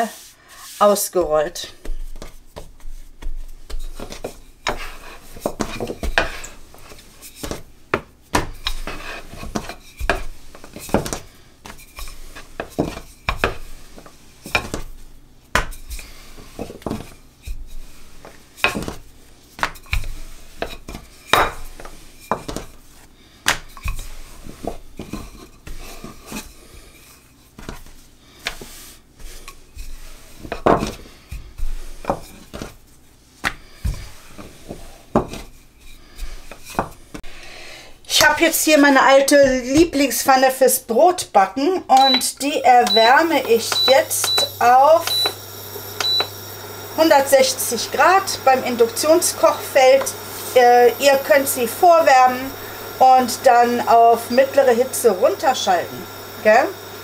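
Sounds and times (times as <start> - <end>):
rolling pin rolling dough: 0.2 - 37.3, 38.1 - 41.0, 41.6 - 57.0.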